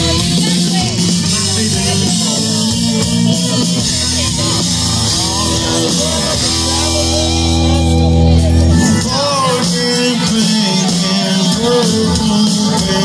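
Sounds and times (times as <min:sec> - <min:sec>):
bass guitar: 0:00.0 - 0:13.0
drums: 0:00.0 - 0:13.0
electric guitar: 0:00.0 - 0:13.0
person singing: 0:00.0 - 0:13.0.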